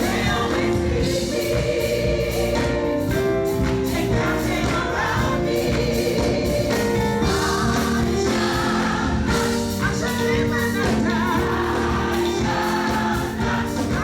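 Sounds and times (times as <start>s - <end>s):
gospel choir singing: 0.0s - 14.0s
live band with steady beat: 0.0s - 14.0s.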